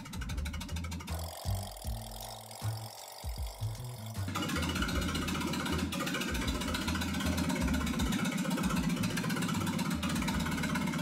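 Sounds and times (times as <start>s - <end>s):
tractor engine with open exhaust: 0.0s - 11.0s.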